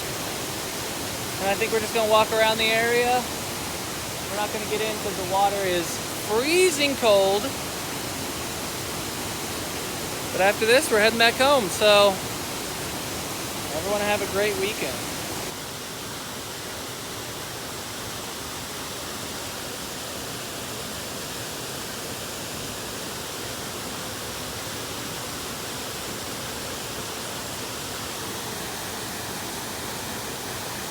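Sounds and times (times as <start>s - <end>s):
waterfall pouring into pool: 0.0s - 30.9s.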